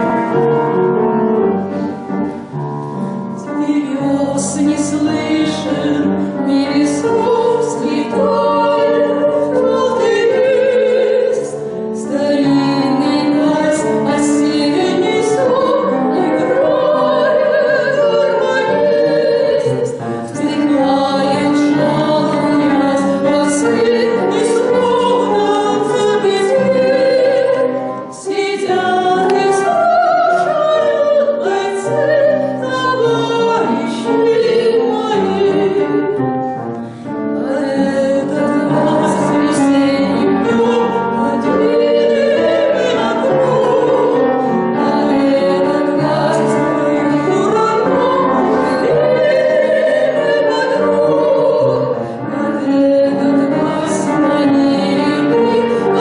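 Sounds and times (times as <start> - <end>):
piano accompaniment: 0.0 - 56.0
two women singing operatic duet: 3.2 - 56.0.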